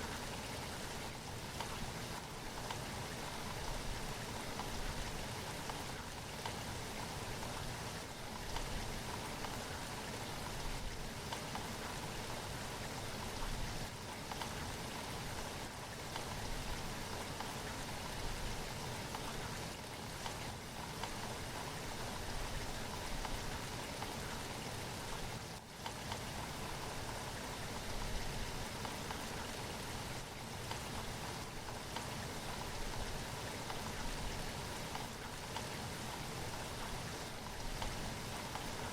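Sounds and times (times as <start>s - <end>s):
rain falling: 0.0s - 38.9s
raindrop ticks: 0.1s - 38.9s.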